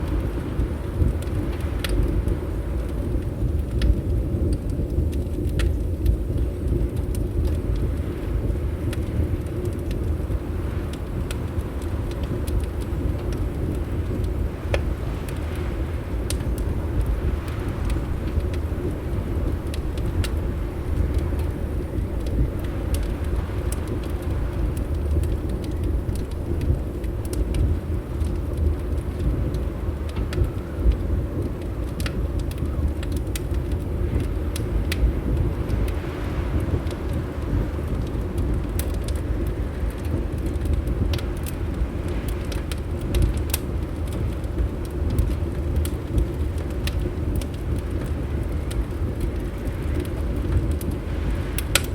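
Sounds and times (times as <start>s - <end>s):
wind rumbling: 0.0s - 51.9s
wood fire crackling: 0.0s - 51.9s.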